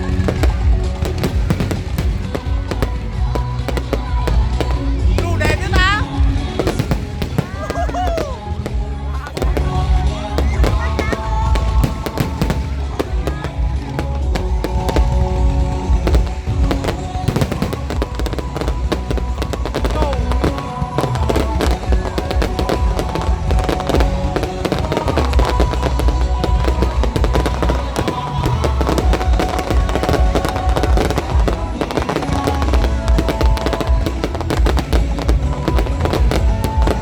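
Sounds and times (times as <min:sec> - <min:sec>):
fireworks bursting and crackling: 0:00.0 - 0:37.0
loud music with heavy bass: 0:00.0 - 0:37.0.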